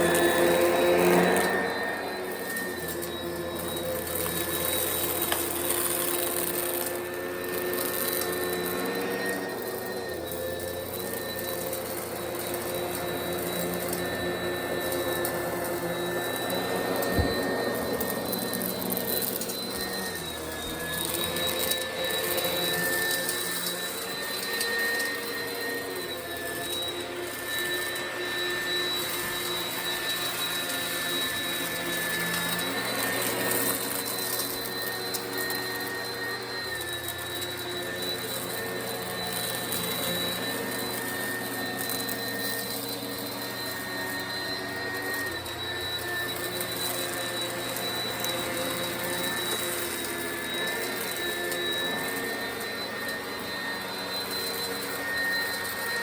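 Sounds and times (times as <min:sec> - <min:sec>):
upright vacuum running: 0:00.0 - 0:56.0.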